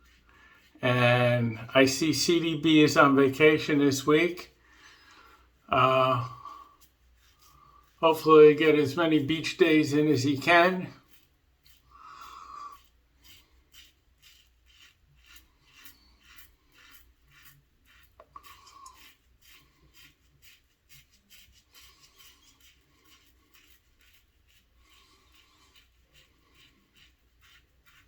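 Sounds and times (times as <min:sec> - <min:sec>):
razor scraping stubble: 0:00.0 - 0:28.0.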